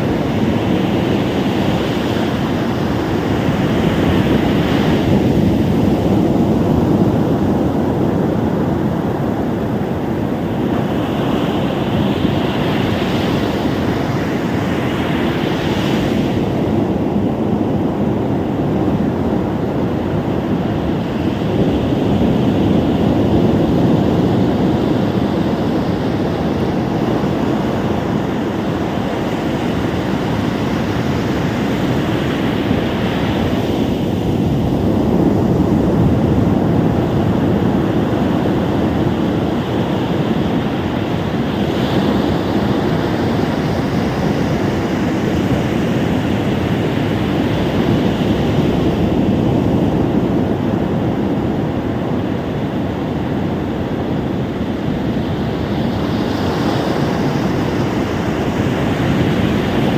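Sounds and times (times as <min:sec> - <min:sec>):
ocean waves roaring: 0:00.0 - 0:59.9.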